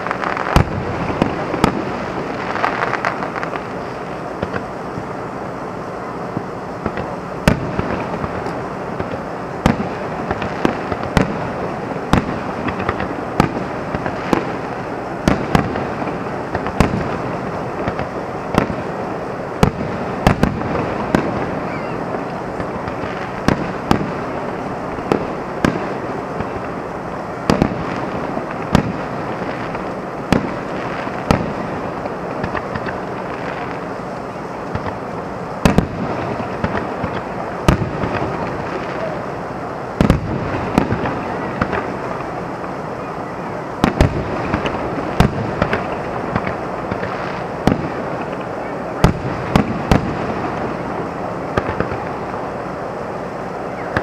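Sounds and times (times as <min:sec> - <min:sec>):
background noise: 0:00.0 - 0:54.0
fireworks bursting with bangs: 0:00.0 - 0:54.0.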